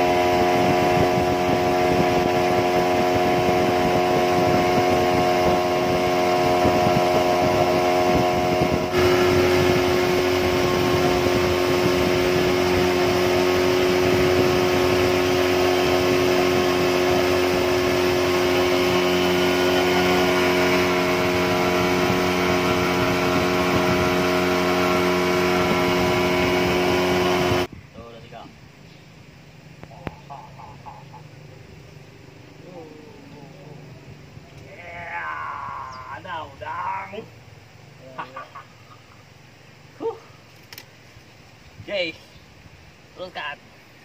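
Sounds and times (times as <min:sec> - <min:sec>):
outboard motor running: 0:00.0 - 0:27.7, 0:29.3 - 0:38.6.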